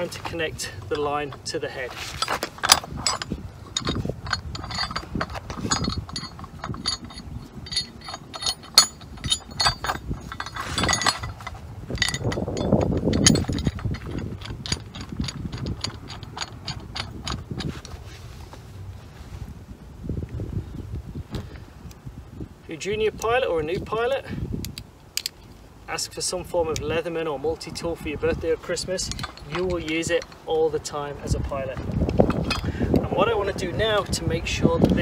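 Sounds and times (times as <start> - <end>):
steel shackle clinking and knocking: 0.0 - 18.1, 23.2 - 25.5, 26.7 - 34.2.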